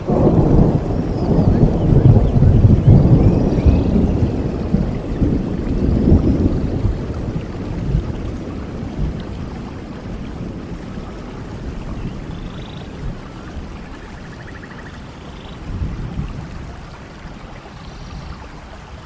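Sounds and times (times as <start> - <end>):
thunder rumbling: 0.0 - 18.7
steady rain: 0.0 - 19.0.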